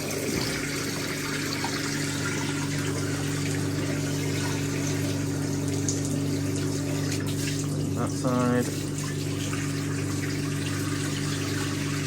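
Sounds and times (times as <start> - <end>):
washing machine drain pump humming: 0.0 - 12.0.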